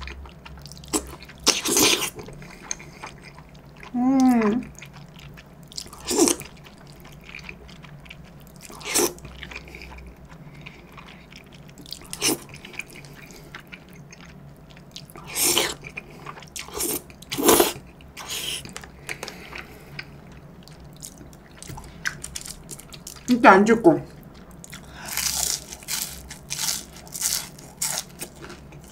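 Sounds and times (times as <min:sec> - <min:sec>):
quiet chewing: 0:00.0 - 0:23.3.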